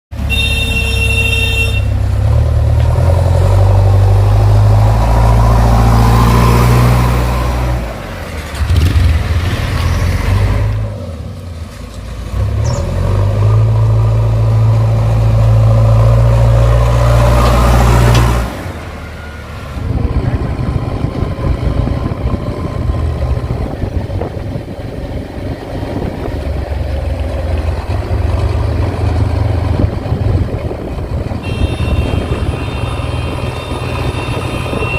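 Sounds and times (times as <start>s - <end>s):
diesel engine revving under load: 1.8s - 34.9s.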